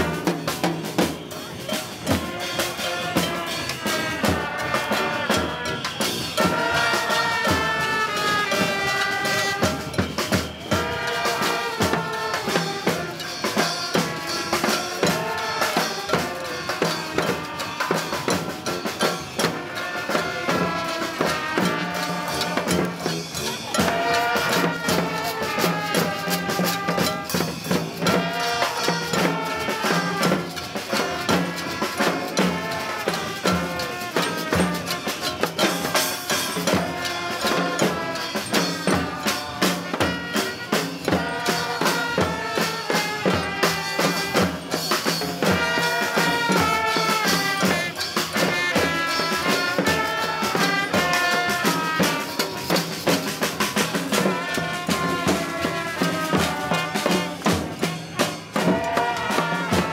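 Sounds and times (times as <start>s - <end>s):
saxophones: 0.0s - 59.9s
trombone: 0.0s - 59.9s
trumpets: 0.0s - 59.9s
tuba: 0.0s - 59.9s.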